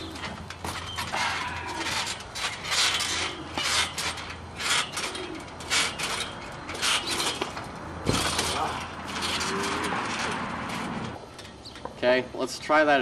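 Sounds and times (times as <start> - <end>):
trampoline springs creaking: 0.0 - 11.9.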